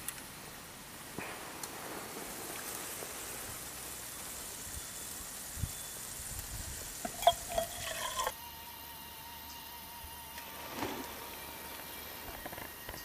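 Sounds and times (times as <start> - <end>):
charcoal burning hiss: 0.0 - 13.0.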